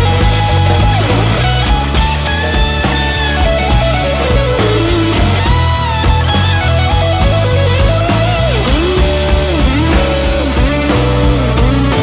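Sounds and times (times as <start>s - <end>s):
blues-rock band music: 0.0s - 12.0s
drums and bass: 0.0s - 12.0s
electric guitar lead: 0.0s - 12.0s.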